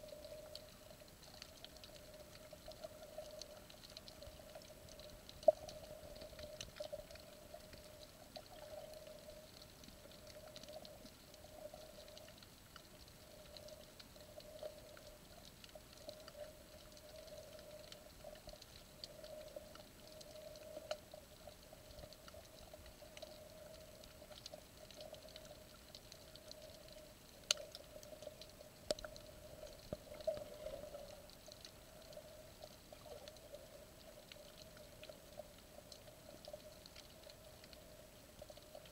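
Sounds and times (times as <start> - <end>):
small clicks and crackles: 0.0 - 38.9.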